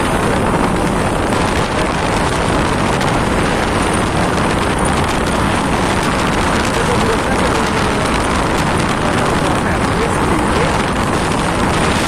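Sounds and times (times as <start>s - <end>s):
scooter road noise: 0.0s - 12.0s
wind rush over microphone: 0.0s - 12.0s.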